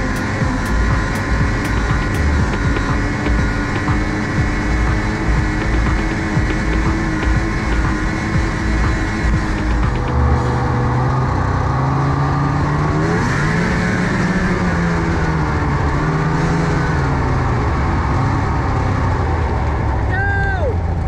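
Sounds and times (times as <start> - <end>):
snowmobile engine running: 0.0 - 21.0.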